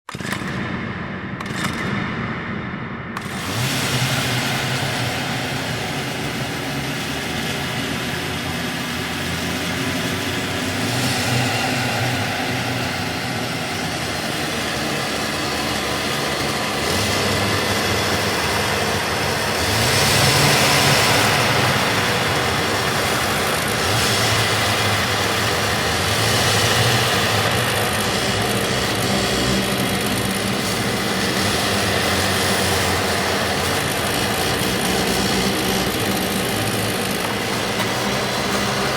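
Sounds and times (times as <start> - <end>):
vehicle engine running: 3.2 - 38.9.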